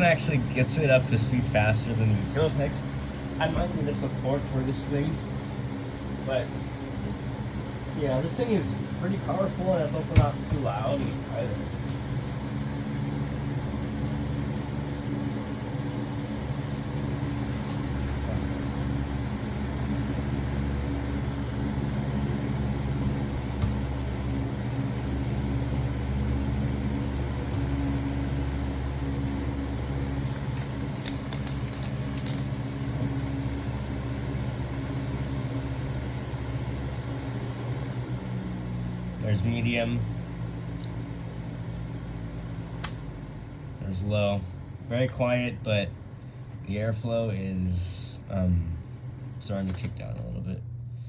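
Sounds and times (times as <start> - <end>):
box fan running: 0.0 - 51.0.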